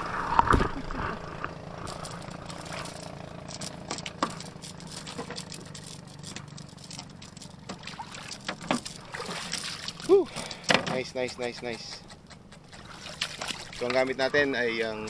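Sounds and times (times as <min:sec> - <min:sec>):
fishing reel mechanical hum: 0:00.0 - 0:15.0
reel clicks and rattles: 0:01.4 - 0:15.0.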